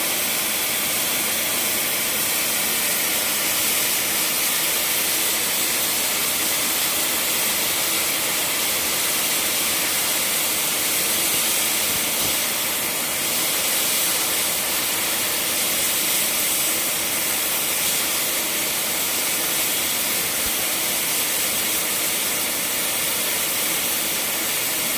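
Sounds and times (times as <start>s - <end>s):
welding arc hissing: 0.0s - 24.9s.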